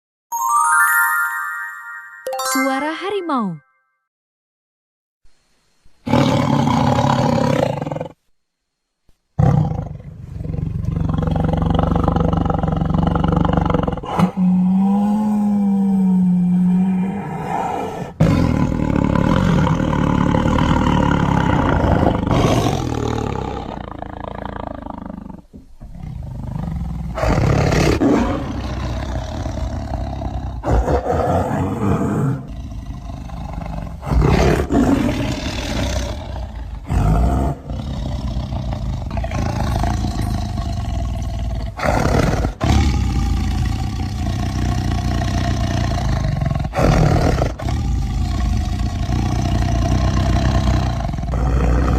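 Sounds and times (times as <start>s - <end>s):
tiger roaring and growling: 6.0s - 8.2s, 9.4s - 51.9s.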